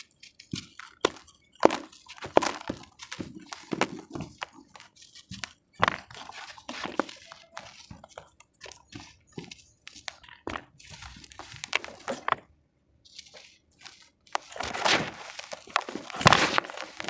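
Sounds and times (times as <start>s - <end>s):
damp cement crunching by hand: 0.0s - 12.5s, 13.1s - 17.0s.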